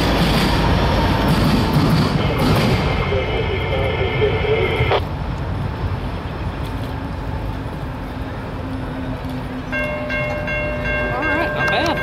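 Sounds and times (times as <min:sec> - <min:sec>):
approaching train rumble: 0:00.0 - 0:12.0.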